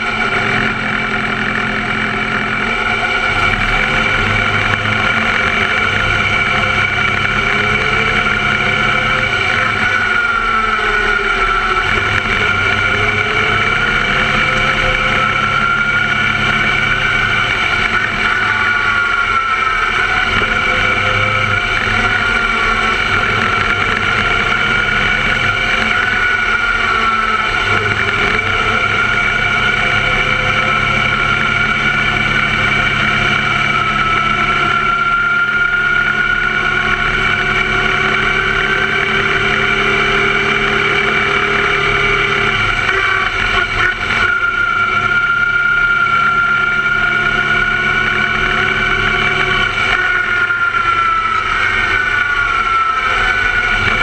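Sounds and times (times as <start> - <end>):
race car engine at speed: 0.0 - 54.0.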